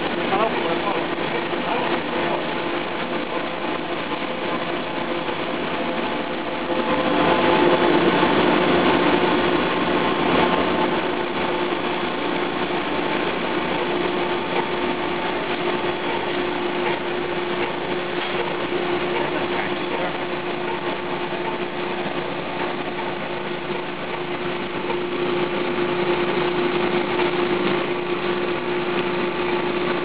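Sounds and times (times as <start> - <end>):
extruder machine hum: 0.0 - 30.0.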